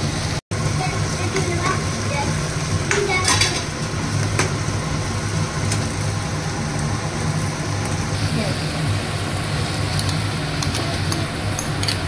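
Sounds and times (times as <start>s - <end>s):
chillies sizzling in oil: 0.0s - 12.0s.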